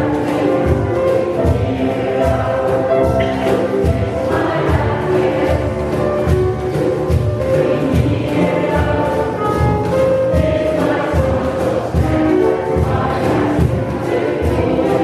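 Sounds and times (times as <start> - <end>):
djembe beat: 0.0 - 15.0
mixed choir singing: 0.0 - 15.0
piano accompaniment: 0.0 - 15.0.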